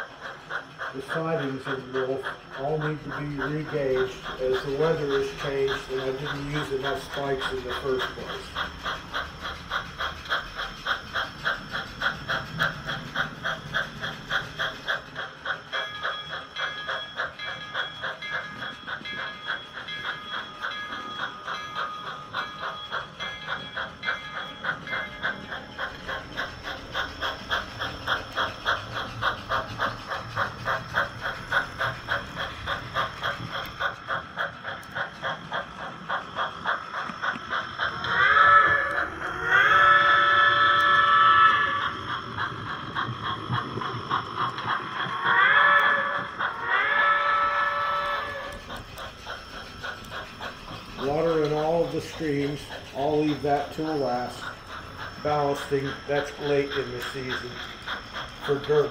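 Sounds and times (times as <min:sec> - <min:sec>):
model steam locomotive chuffing: 0:00.0 - 0:58.9.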